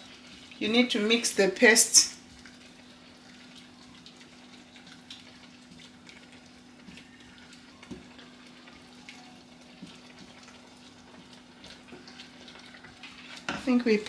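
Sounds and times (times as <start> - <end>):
spoon stirring thick sauce: 2.2 - 13.8.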